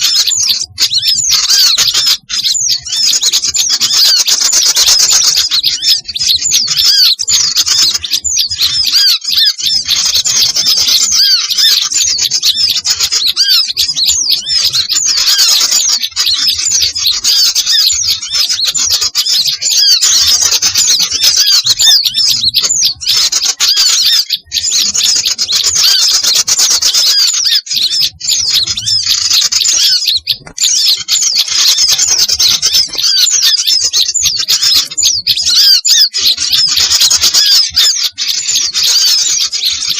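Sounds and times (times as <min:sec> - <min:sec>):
songbirds chattering and chirping: 0:00.0 - 0:39.9.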